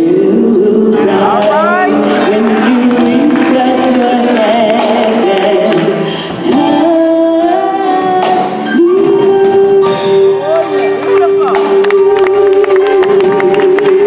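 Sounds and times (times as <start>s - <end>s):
woman singing lead: 0.0s - 14.0s.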